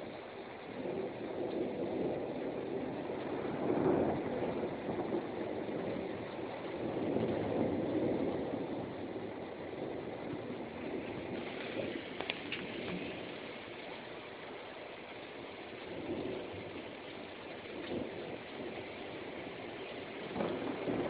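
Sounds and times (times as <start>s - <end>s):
rain and storm noise: 0.0s - 21.0s.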